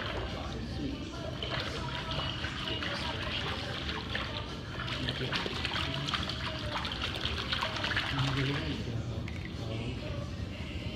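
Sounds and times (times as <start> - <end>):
pool water splashing: 0.0 - 9.7.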